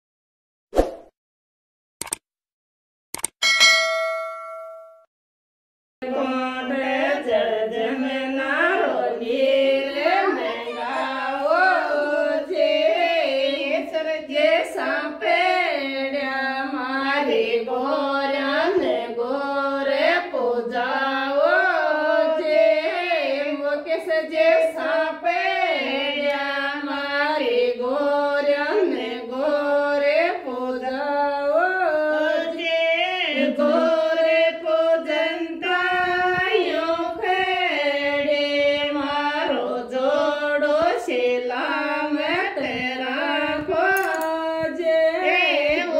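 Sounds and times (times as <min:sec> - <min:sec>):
women singing together: 0:06.0 - 0:45.9.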